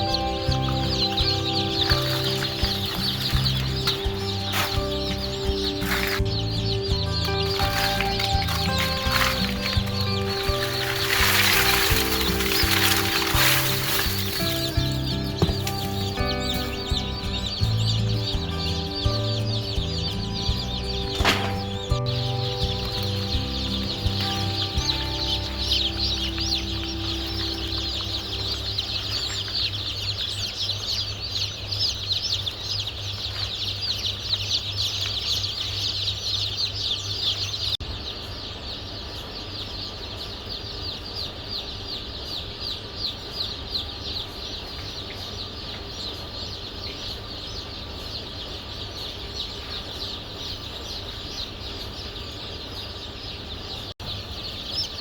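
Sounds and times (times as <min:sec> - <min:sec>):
chickens calling: 0:00.0 - 0:55.0.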